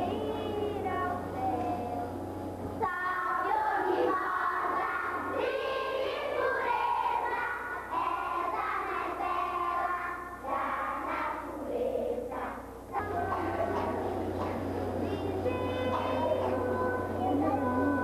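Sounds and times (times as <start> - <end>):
children singing in chorus: 2.9 - 18.0.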